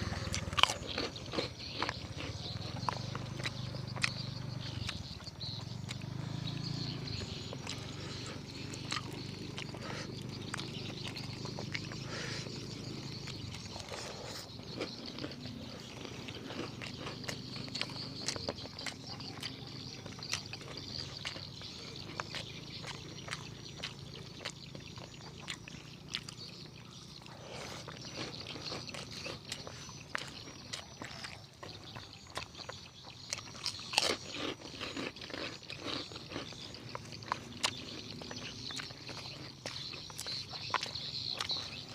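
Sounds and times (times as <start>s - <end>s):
chewing and mouth smacking: 0.0s - 41.9s.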